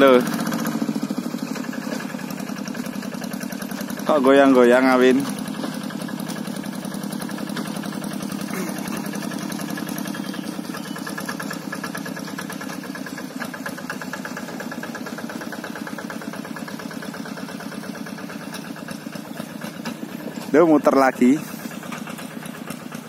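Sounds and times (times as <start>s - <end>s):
hand tractor engine running: 0.0s - 23.0s.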